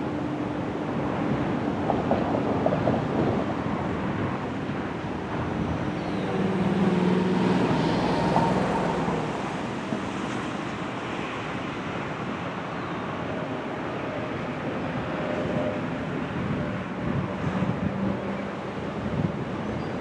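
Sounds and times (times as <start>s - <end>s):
highway traffic rumble: 0.0s - 20.0s
wind noise on microphone: 0.0s - 20.0s.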